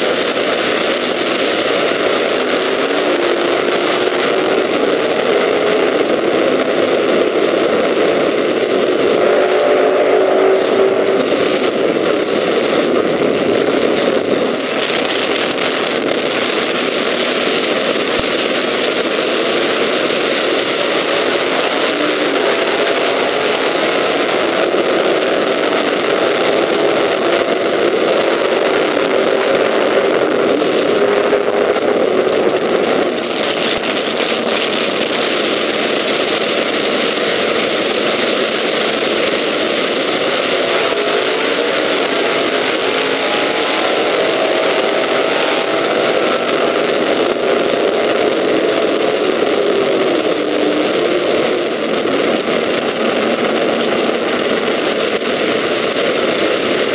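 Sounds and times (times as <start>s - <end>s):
racing engines idling: 0.0s - 54.9s.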